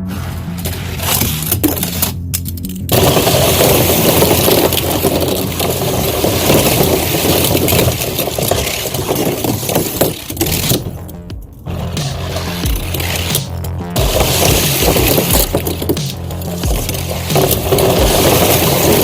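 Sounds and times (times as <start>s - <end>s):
background music: 0.0s - 19.0s
toy cars rattling down a slide: 0.6s - 10.9s, 14.0s - 19.0s.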